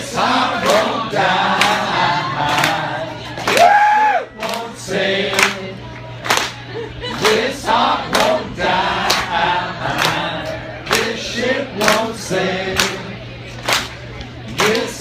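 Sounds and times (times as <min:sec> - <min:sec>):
many voices singing together: 0:00.0 - 0:13.8, 0:14.4 - 0:15.0.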